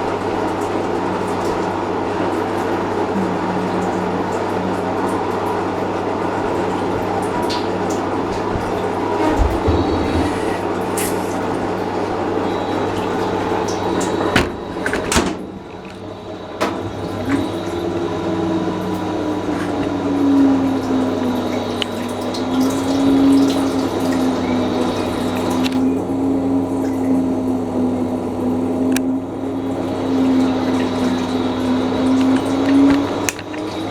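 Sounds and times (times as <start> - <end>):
humming motor tone: 0.0 - 33.9
washing machine water rushing: 0.0 - 33.9.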